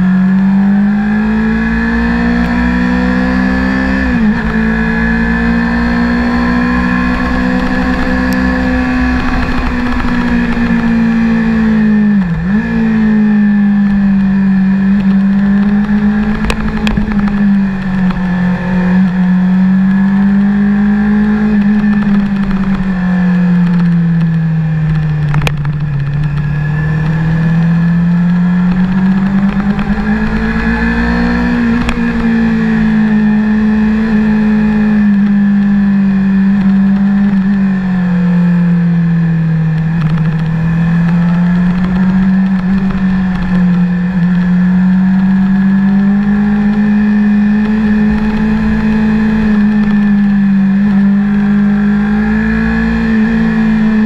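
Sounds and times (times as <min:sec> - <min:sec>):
motorcycle engine under load: 0:00.0 - 0:54.0
wind noise: 0:00.6 - 0:54.0.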